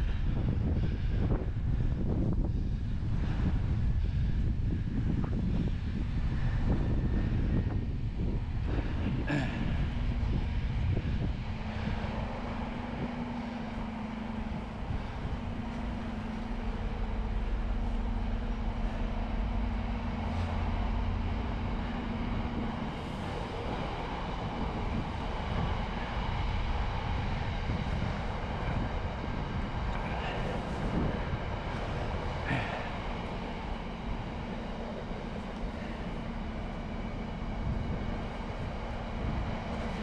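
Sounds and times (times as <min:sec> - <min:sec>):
bicycle riding rumble: 0:00.0 - 0:40.0
steady hum: 0:00.0 - 0:40.0
wind on microphone: 0:00.0 - 0:40.0.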